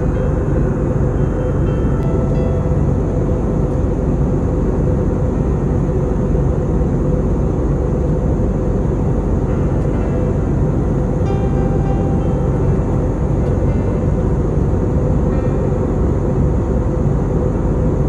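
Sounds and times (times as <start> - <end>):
jet airliner cabin noise: 0.0 - 18.0.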